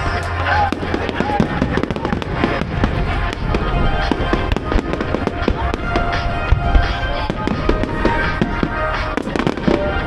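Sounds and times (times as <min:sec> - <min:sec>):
fireworks bangs and crackles: 0:00.0 - 0:10.0
music playing: 0:00.0 - 0:10.0.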